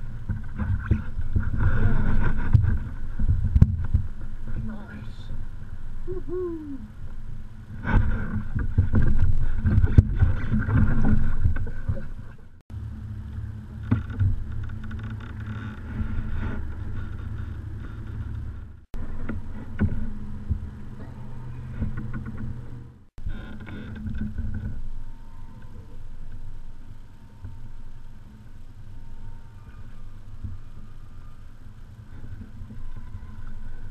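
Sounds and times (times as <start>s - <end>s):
wind and water rumble on microphone: 0.0s - 33.9s.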